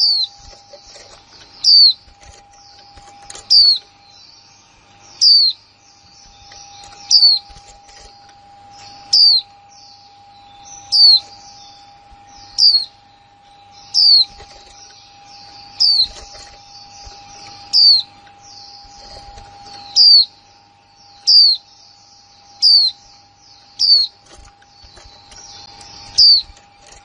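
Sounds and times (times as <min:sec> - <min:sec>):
soft bird twittering: 0:00.0 - 0:27.0.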